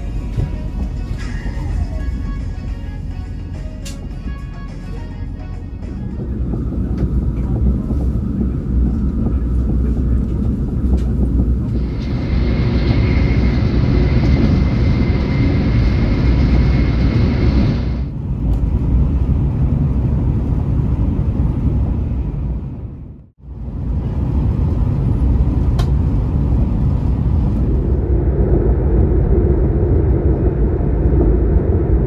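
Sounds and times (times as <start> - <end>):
train interior low rumble: 0.0 - 32.0.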